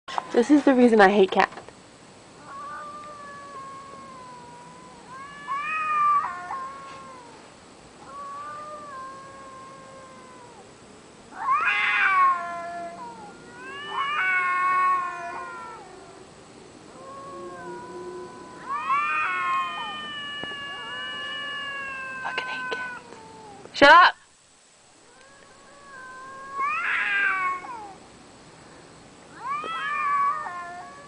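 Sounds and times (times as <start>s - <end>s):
cats yowling: 2.4s - 16.3s, 16.9s - 23.7s, 25.1s - 28.0s, 29.3s - 31.0s.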